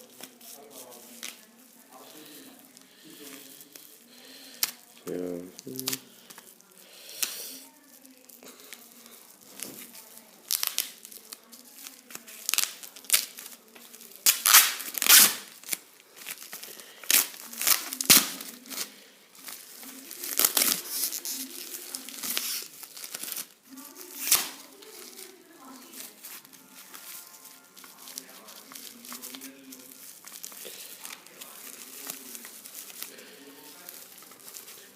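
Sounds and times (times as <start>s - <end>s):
packaging crinkling and tearing: 0.0s - 34.9s.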